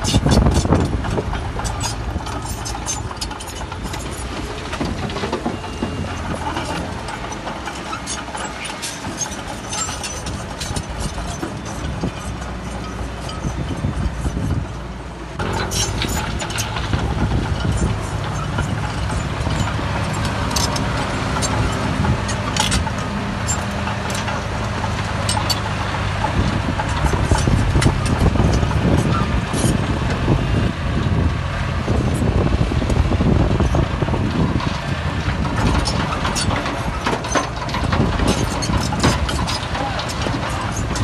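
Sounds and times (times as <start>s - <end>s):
diesel machinery engine hum: 0.0s - 41.0s.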